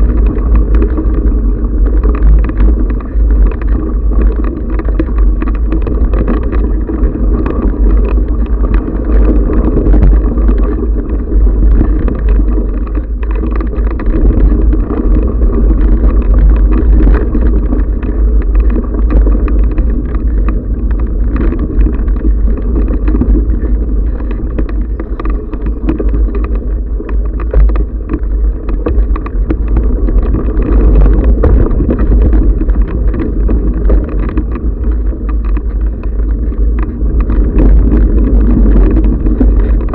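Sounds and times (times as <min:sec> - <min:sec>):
bike tyres rumbling on dirt: 0:00.0 - 0:39.9
rattle of small knocks: 0:00.0 - 0:39.9
wind on microphone: 0:00.0 - 0:39.9.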